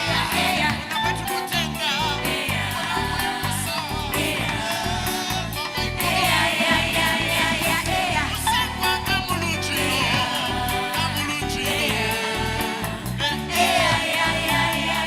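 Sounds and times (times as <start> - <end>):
person singing: 0.0 - 6.8, 7.9 - 14.0
guitar: 0.0 - 15.0
keyboard: 0.0 - 15.0.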